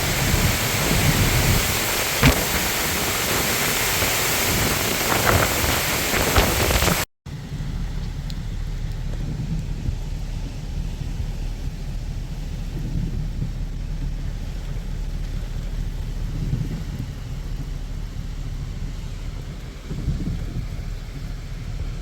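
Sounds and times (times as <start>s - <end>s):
heavy rain: 0.0s - 22.0s
rolling thunder: 0.0s - 22.0s.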